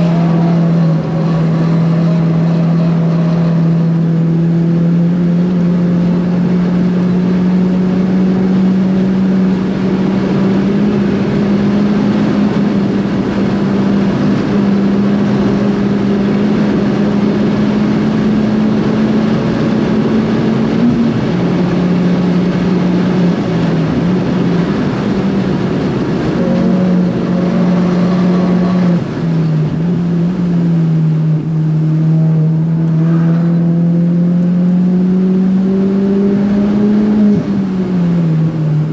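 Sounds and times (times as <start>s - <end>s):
car engine at high revs: 0.0s - 38.9s.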